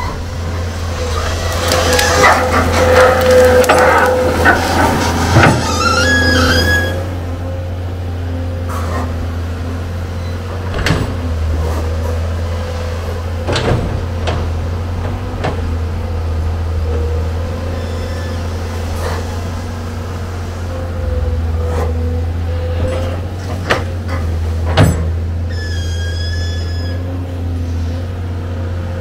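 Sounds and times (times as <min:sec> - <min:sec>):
excavator diesel engine droning: 0:00.0 - 0:29.0.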